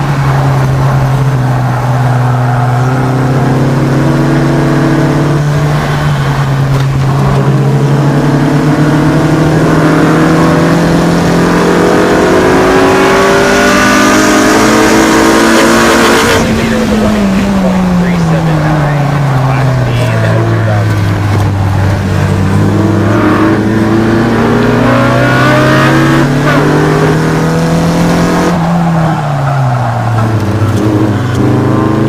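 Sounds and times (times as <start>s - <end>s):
race car engine: 0.0s - 32.0s.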